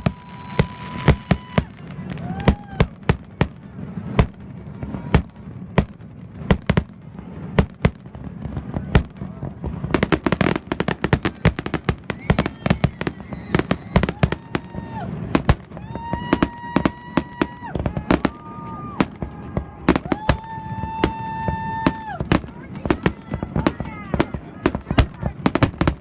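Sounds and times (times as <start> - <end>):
fireworks bursting: 0.0 - 26.0.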